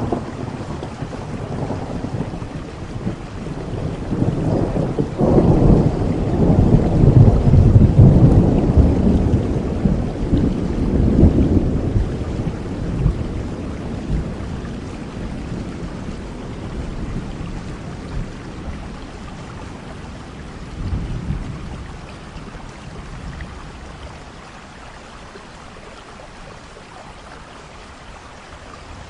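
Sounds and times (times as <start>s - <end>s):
thunder rumbling: 0.0s - 24.1s
steady rain: 0.0s - 29.0s.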